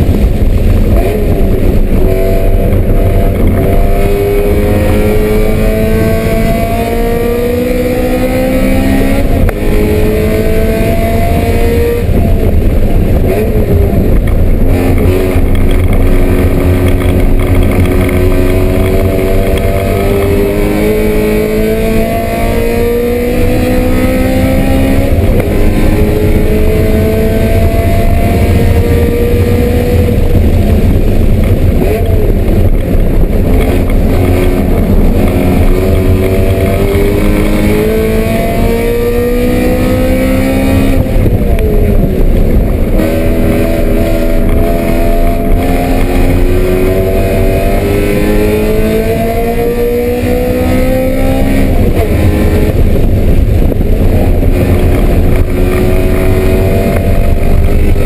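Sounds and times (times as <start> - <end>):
car engine pulling hard: 0.0 - 58.0
wind and road noise rumble: 0.0 - 58.0.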